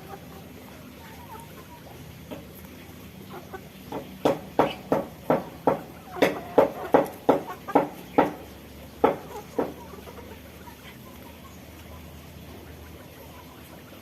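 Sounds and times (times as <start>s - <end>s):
bird clucking calls: 0.0s - 14.0s.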